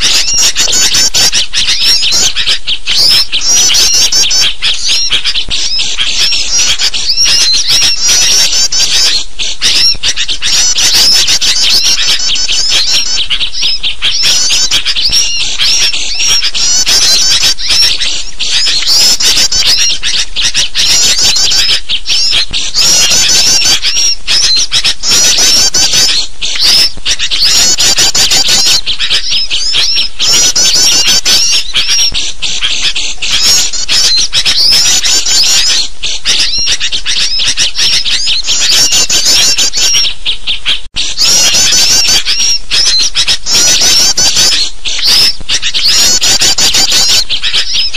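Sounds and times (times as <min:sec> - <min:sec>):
bulbul calls: 0:00.0 - 0:47.9
songbirds chattering: 0:00.0 - 0:47.9.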